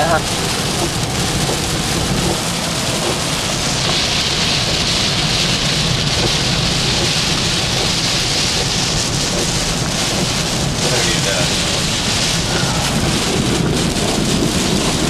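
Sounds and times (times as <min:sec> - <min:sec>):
heavy rain on car: 0:00.0 - 0:15.0
low steady rumble: 0:00.0 - 0:15.0.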